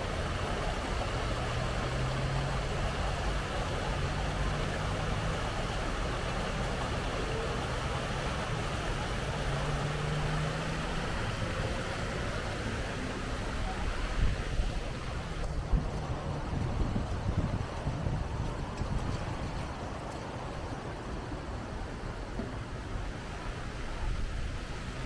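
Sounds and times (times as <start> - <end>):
river running over rocks: 0.0 - 25.0
road traffic drone: 0.0 - 25.0.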